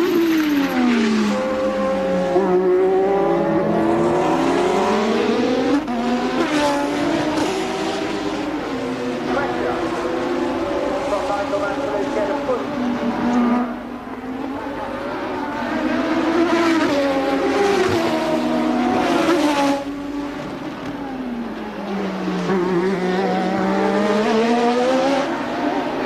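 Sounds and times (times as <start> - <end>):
racing car engine: 0.0 - 26.0.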